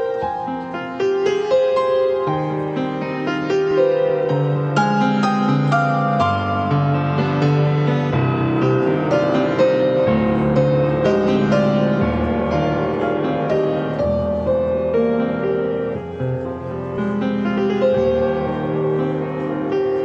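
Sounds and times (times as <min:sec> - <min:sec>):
slow hymn on piano: 0:00.0 - 0:20.0.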